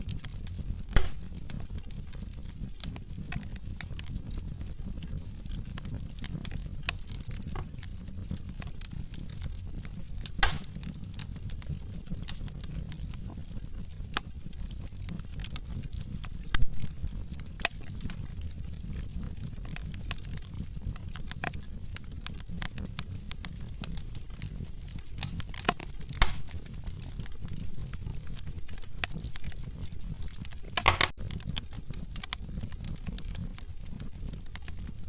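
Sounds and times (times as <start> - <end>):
fire crackling: 0.0 - 35.0
flames rumbling: 0.0 - 35.0
log fire popping: 0.0 - 35.0.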